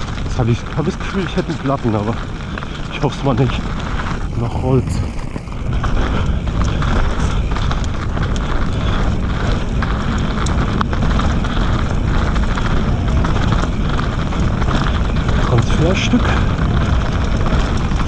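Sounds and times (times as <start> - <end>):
bike clicks and rattles: 0.0 - 18.0
tyres rolling over dirt trail: 0.0 - 18.0
wind rush on microphone: 0.0 - 18.0.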